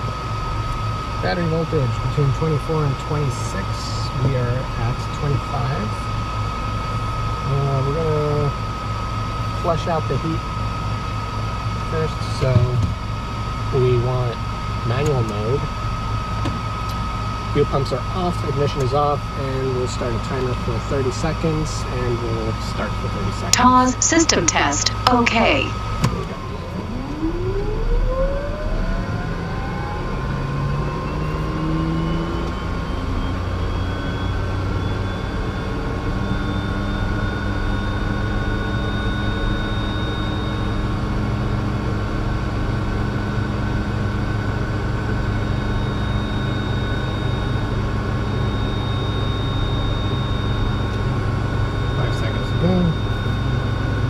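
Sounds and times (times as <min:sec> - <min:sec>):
turboprop starter whine: 0:00.0 - 0:54.0.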